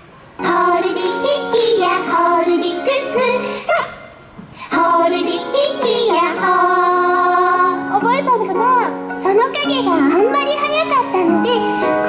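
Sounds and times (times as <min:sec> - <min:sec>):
cheerful accompaniment: 0:00.4 - 0:03.7, 0:04.7 - 0:12.0
high bright singing voice: 0:00.4 - 0:08.1, 0:09.1 - 0:12.0.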